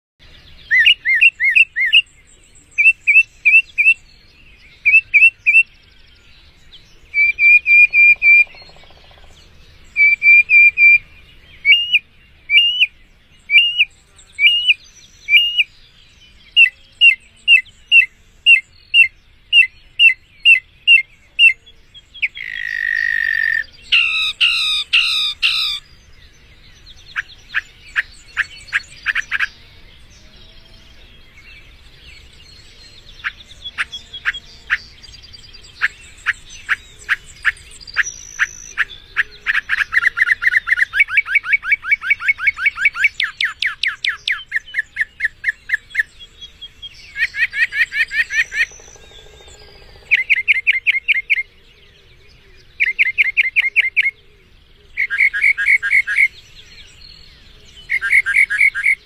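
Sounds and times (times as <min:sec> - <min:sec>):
mockingbird singing: 0:00.2 - 0:59.0.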